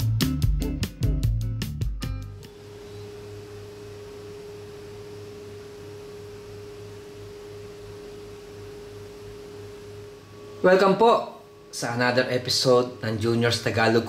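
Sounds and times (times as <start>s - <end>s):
faint low pulsing: 2.3s - 14.0s
steady pure tone: 2.3s - 14.0s.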